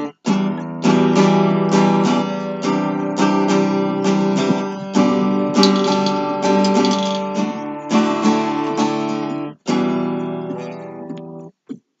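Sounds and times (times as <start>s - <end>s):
acoustic guitar strumming: 0.0s - 11.5s.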